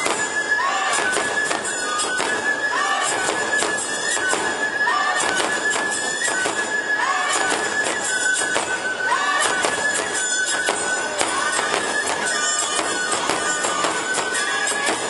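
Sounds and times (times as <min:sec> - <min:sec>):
drums and hand cymbals: 0:00.0 - 0:15.0
high flute note: 0:00.0 - 0:15.0.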